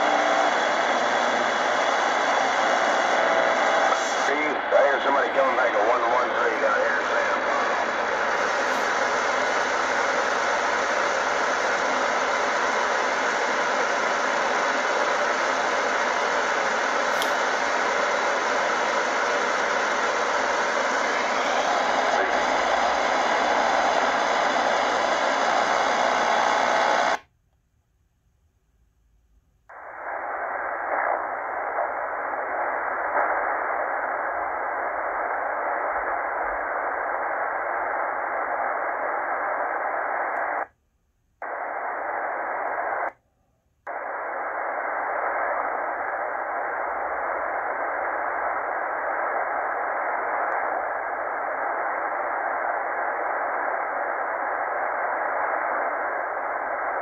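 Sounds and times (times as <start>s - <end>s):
radio static hiss: 0.0s - 27.2s, 29.7s - 40.8s, 41.4s - 43.2s, 43.9s - 57.0s.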